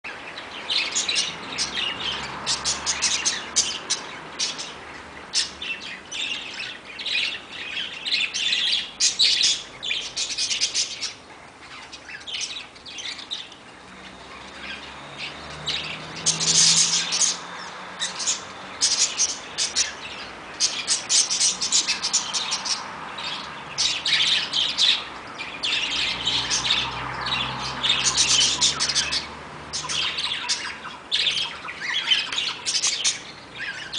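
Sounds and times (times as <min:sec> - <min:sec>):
birds chirping and squawking: 0:00.0 - 0:33.9.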